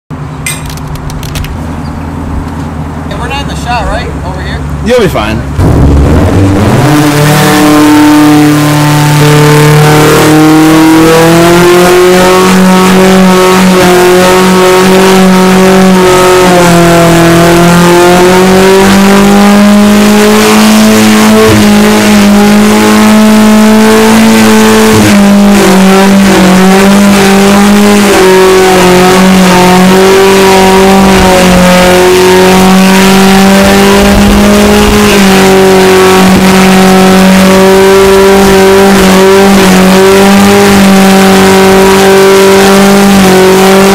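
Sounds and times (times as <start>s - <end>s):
car engine revving high: 1.0s - 43.9s.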